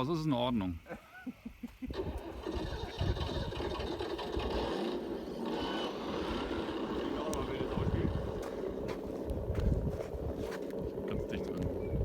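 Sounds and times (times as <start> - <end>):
rc car rumbling over gravel: 1.9 - 12.0.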